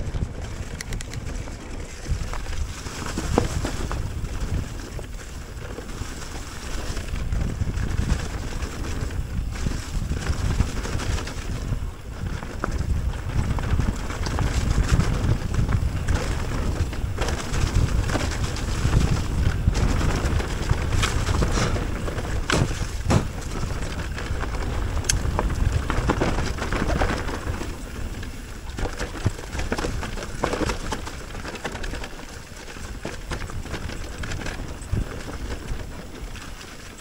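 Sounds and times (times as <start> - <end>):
bike rattles and knocks: 0.0 - 37.0
bike tyres rumbling on trail: 0.0 - 37.0
wind buffeting microphone: 0.0 - 37.0.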